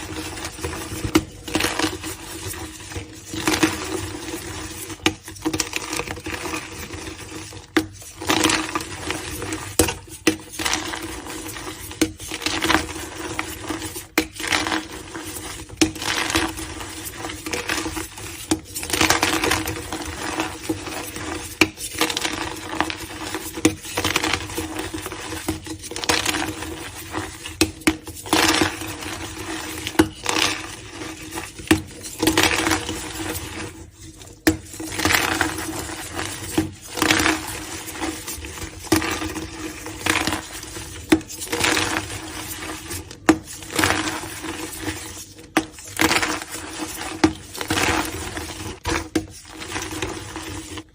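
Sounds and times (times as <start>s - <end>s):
chalk blocks crunching: 7.9s - 50.9s.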